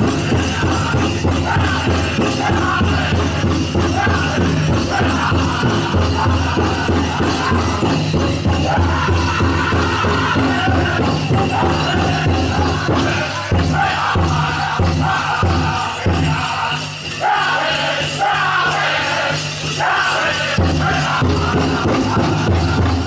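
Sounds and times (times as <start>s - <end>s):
big drum beat: 0.0s - 16.9s, 18.2s - 23.0s
drum group singing: 0.0s - 23.0s
leg bells jingling: 0.0s - 23.0s.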